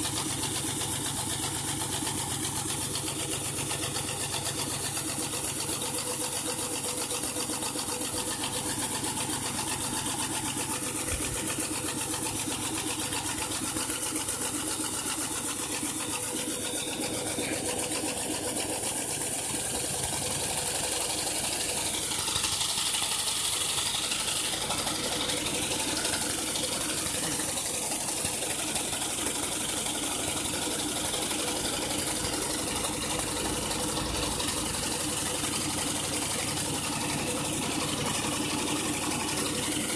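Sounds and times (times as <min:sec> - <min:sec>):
model steam engine clattering: 0:00.0 - 0:39.9
steam hissing: 0:07.5 - 0:39.9.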